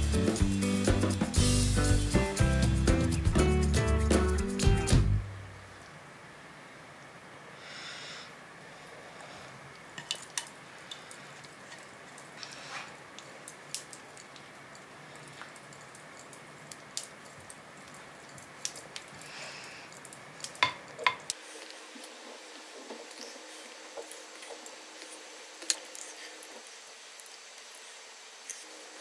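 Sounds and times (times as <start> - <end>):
steady soft hiss: 0.0 - 29.0.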